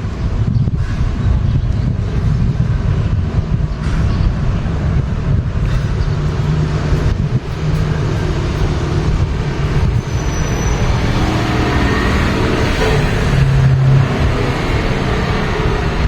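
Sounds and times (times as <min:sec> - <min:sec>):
road vehicle rumbling: 0:00.0 - 0:16.0
traffic noise: 0:00.0 - 0:16.0.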